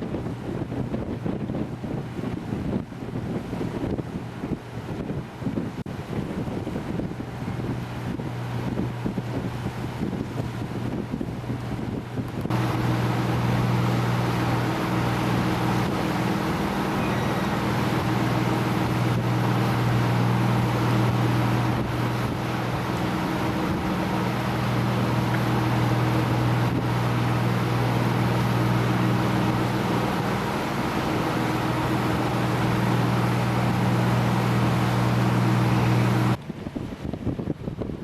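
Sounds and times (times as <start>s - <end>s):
motorboat engine humming: 0.0s - 38.0s.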